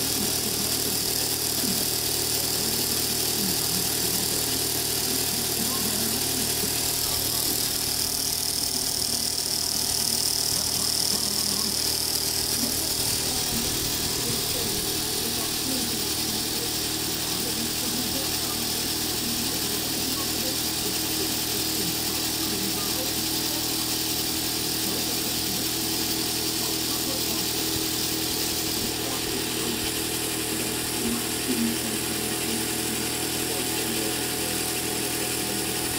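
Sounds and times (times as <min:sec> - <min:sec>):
steam hissing: 0:00.0 - 0:35.9
toy steam engine whirring: 0:00.0 - 0:35.9.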